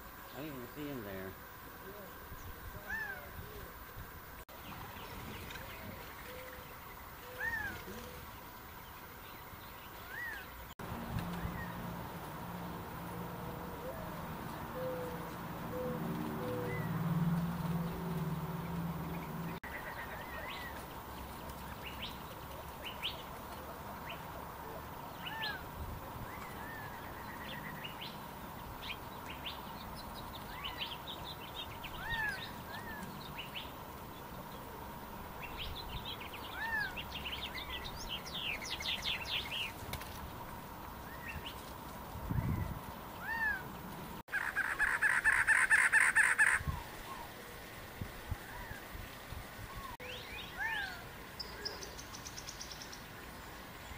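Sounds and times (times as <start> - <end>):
birds chirping and twittering: 0.0 - 53.9.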